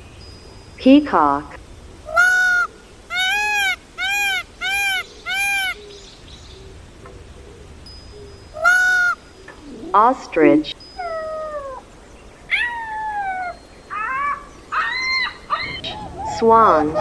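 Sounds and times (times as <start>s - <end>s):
peacock calling: 2.0s - 17.0s.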